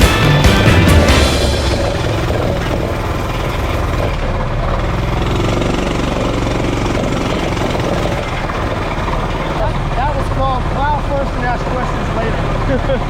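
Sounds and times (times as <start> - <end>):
minibike engine running: 0.0 - 13.0.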